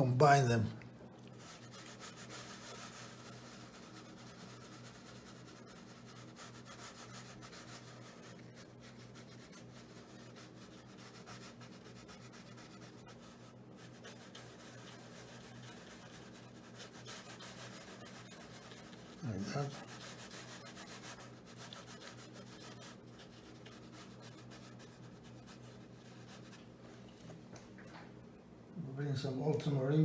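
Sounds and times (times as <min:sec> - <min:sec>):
low steady hum: 0:00.0 - 0:30.0
paintbrush scratching on paper: 0:01.2 - 0:26.9.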